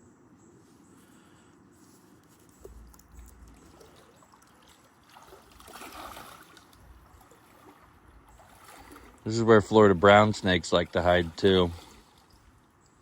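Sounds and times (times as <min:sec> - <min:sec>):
trickling water: 0:02.2 - 0:13.0.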